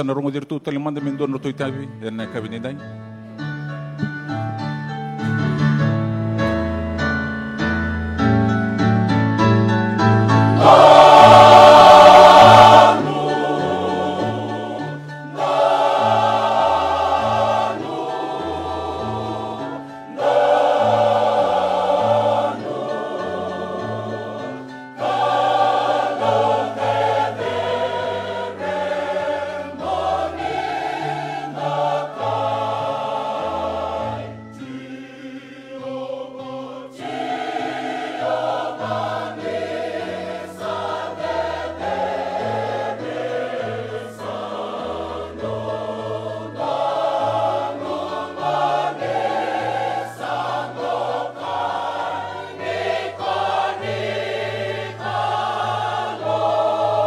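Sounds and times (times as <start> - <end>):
mixed choir singing a hymn: 9.6 - 57.0.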